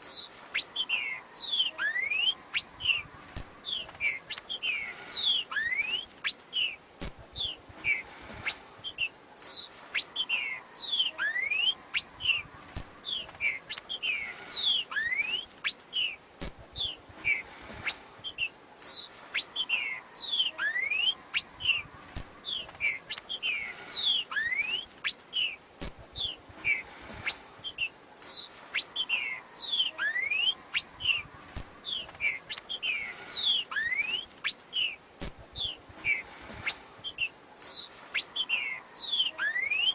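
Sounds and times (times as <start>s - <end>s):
bird whistling call: 0.0s - 39.9s.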